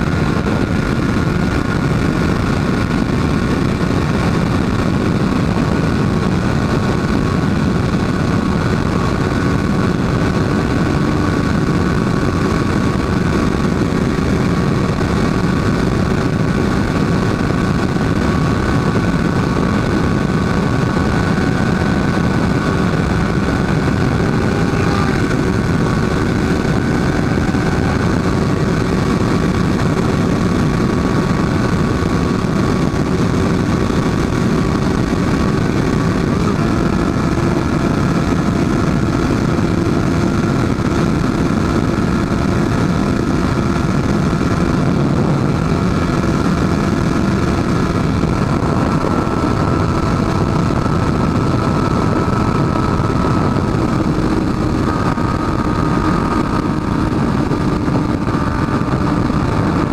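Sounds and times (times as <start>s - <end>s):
motorcycle cruising: 0.0s - 59.9s
wind rushing over microphone: 0.0s - 59.9s.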